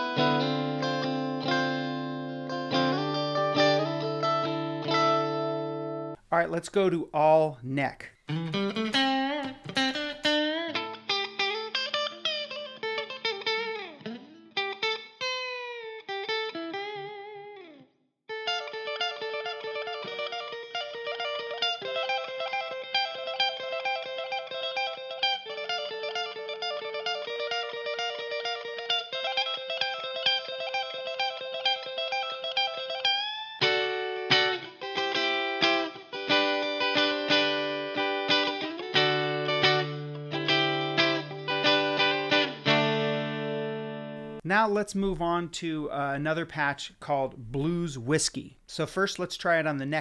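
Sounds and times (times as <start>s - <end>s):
electric guitar playing: 0.0s - 6.2s, 8.2s - 46.4s.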